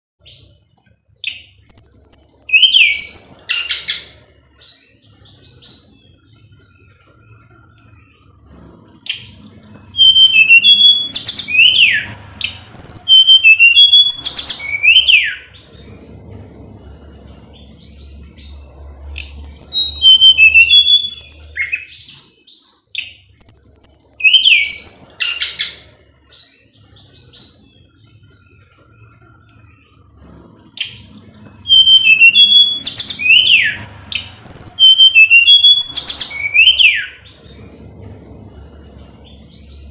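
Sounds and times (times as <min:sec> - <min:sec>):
songbird whistling and chirping: 0:01.2 - 0:15.9, 0:16.9 - 0:29.2, 0:30.1 - 0:37.6.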